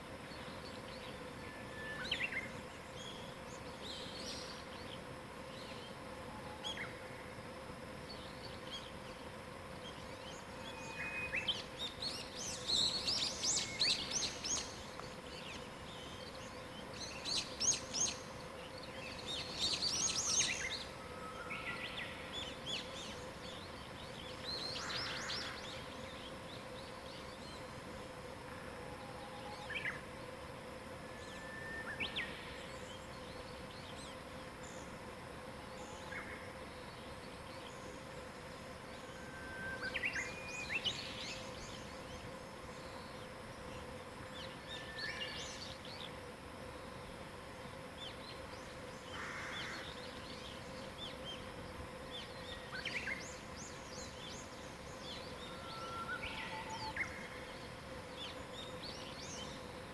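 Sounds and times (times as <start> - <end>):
faint steady hum: 0.0 - 59.9
songbirds singing and chirping: 0.2 - 46.3, 47.7 - 59.9.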